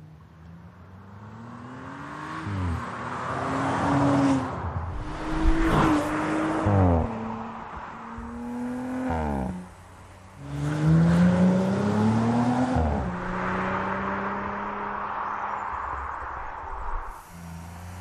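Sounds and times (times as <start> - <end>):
car engine accelerating: 0.2 - 18.0.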